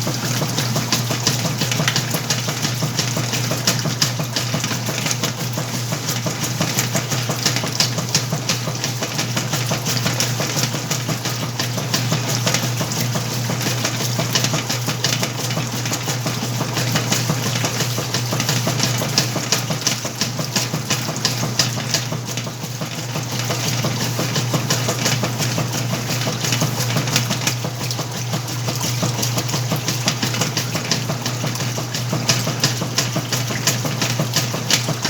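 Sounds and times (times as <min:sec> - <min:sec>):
washing machine motor hum: 0:00.0 - 0:35.0
water and clothes sloshing: 0:00.0 - 0:35.0.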